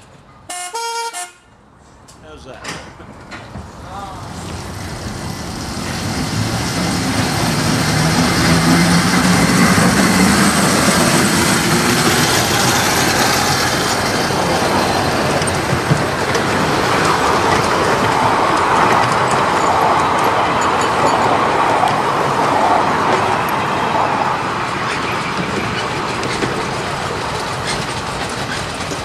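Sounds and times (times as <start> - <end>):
train wheels rumbling on track: 2.0 - 29.0.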